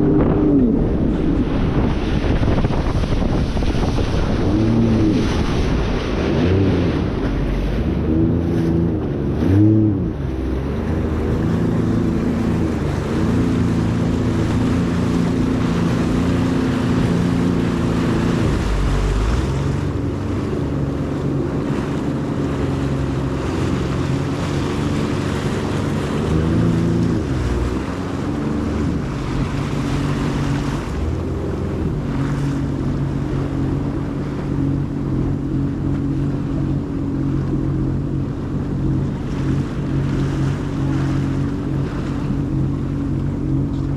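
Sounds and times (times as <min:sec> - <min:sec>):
jet ski engine: 0:00.0 - 0:43.9
rushing water: 0:00.0 - 0:43.9
wind on microphone: 0:00.0 - 0:43.9.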